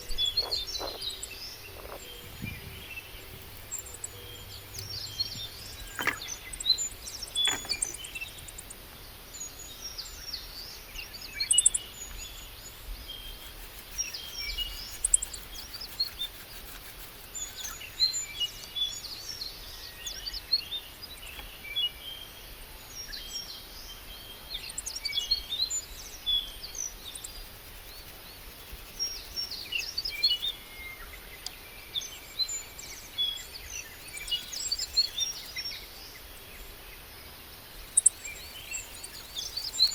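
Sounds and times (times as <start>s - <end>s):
birds chirping and trilling: 0.0s - 22.3s, 24.3s - 36.7s, 37.7s - 39.9s.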